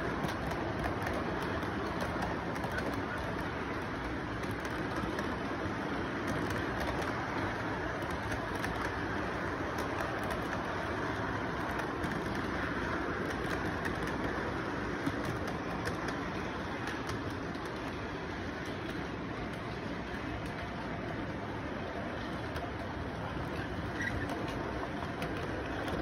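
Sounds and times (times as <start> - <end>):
light rapid clicking: 0.0 - 21.2
model train rolling on track: 0.0 - 26.0.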